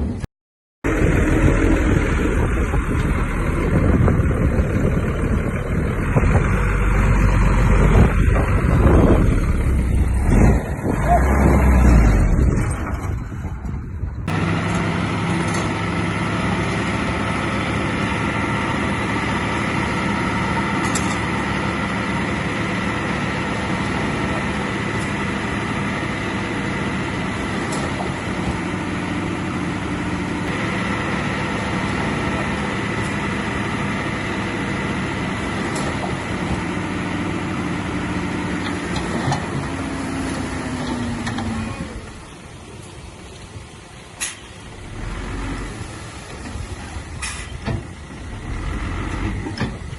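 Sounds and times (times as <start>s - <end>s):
heavy diesel engine running: 0.8s - 49.9s.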